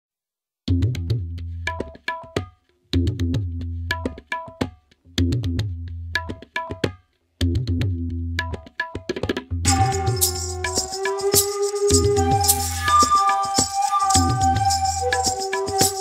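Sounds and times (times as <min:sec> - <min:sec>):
percussive drum music: 0:00.7 - 0:16.0.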